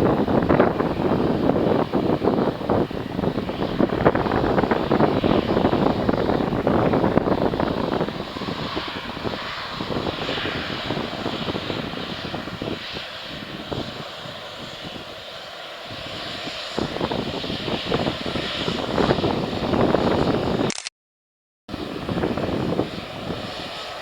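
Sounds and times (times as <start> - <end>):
airliner engines roaring: 0.0 - 20.7, 21.7 - 24.0
wind buffeting microphone: 0.0 - 20.7, 21.7 - 24.0.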